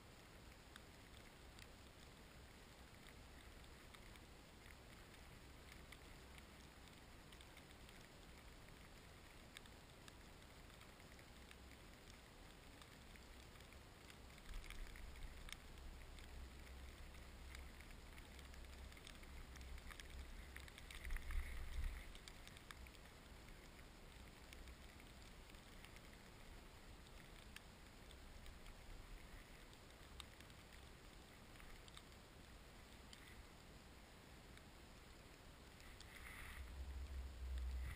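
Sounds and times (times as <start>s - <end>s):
faint low rumble: 0.0s - 37.9s.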